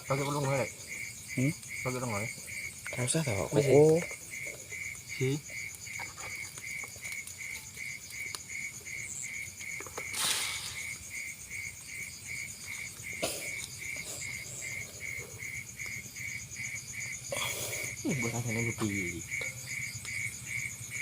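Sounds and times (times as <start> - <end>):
cricket-like pulsing call: 0.0 - 21.0
high insect trill: 0.0 - 21.0.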